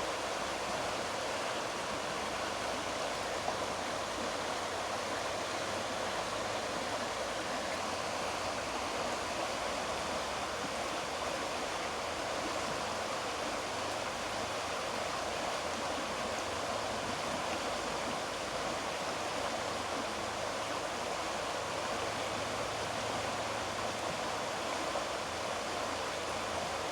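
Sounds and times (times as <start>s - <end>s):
stream water rushing: 0.0s - 26.9s.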